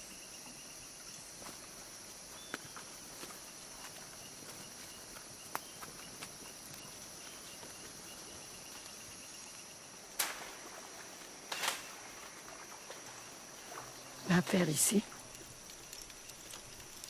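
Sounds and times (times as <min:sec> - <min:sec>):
insects droning: 0:00.0 - 0:17.0
rapid insect chirping: 0:00.0 - 0:17.0.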